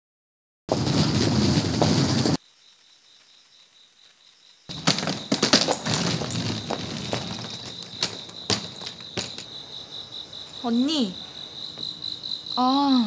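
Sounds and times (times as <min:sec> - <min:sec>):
crickets chirping: 0:00.7 - 0:13.0.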